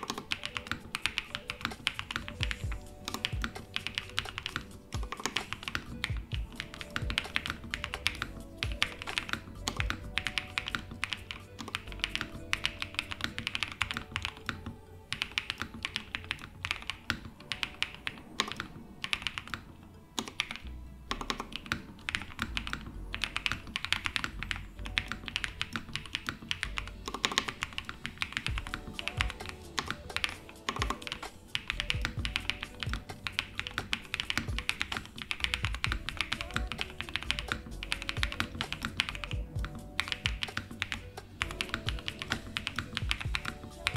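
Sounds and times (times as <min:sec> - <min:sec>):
background music: 0:00.0 - 0:43.9
fast typing on mechanical keyboard: 0:00.0 - 0:43.9.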